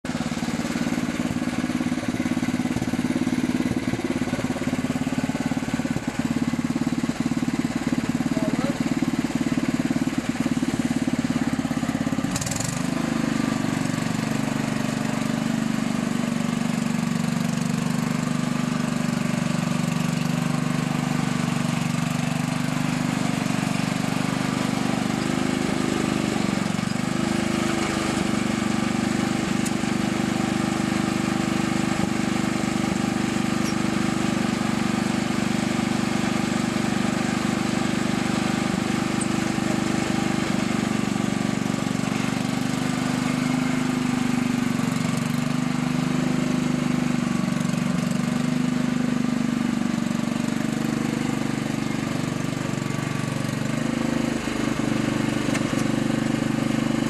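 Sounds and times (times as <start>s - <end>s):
lawnmower engine running: 0.0s - 57.0s.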